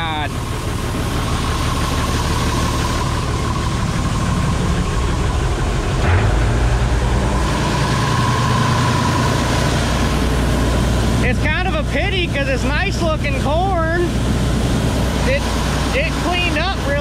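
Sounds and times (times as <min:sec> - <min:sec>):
combine harvester engine rumble: 0:00.0 - 0:17.0
thin steady whine: 0:00.0 - 0:17.0.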